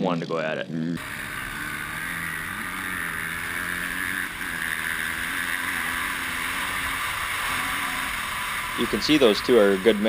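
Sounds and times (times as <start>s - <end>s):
off-road vehicle engines running: 1.0s - 10.0s
steady hiss: 1.0s - 10.0s.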